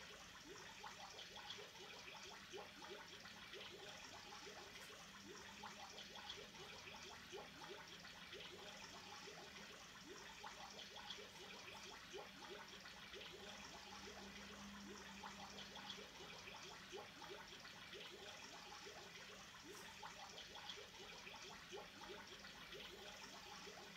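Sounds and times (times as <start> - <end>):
aquarium water bubbling: 0.0 - 23.9.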